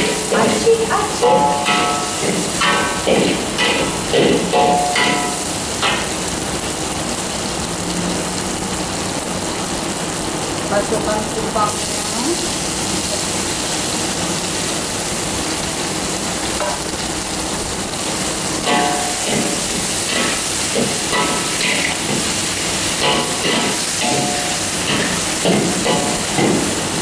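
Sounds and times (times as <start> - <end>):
mussels sizzling in hot oil: 0.0 - 27.0.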